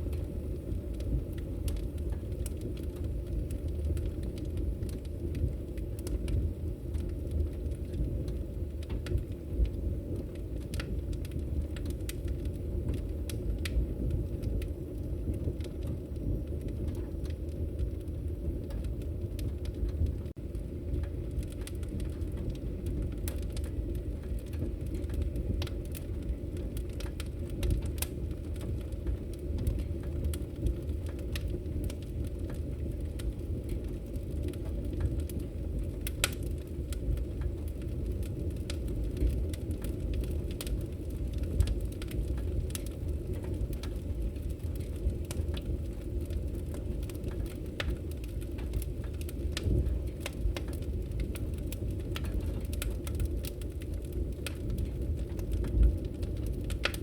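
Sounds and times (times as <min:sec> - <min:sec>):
fire crackling and popping: 0:00.0 - 0:57.0
fire rumbling: 0:00.0 - 0:57.0.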